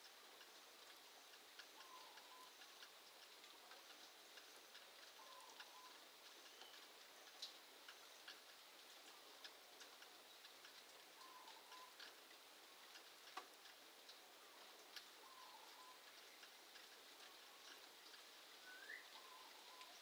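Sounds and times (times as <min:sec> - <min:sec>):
light ticks: 0:00.0 - 0:20.0.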